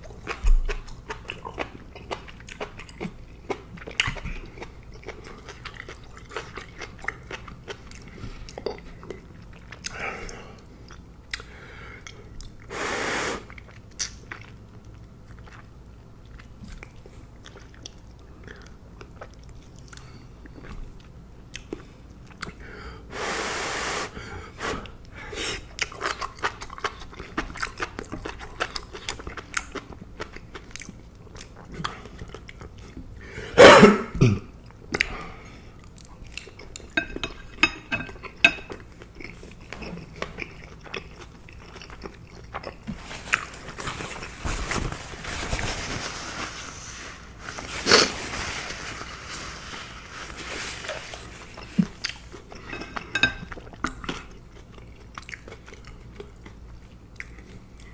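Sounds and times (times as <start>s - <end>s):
person chewing food: 0.0s - 12.7s, 13.4s - 22.6s, 24.8s - 33.2s, 34.6s - 45.9s, 46.7s - 57.9s.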